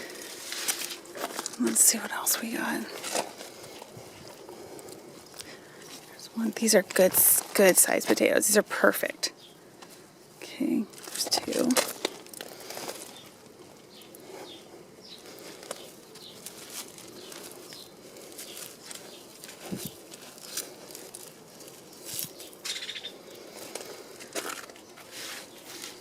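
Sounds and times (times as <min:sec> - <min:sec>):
hands digging through dry soil: 0:00.0 - 0:08.9, 0:10.6 - 0:26.0.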